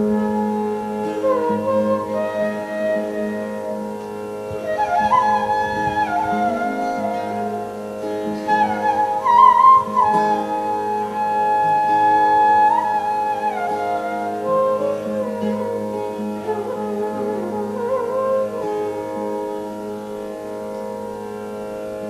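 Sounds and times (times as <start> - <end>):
flute playing ornamented melody: 0.0 - 22.0
steady held drone: 0.0 - 22.0.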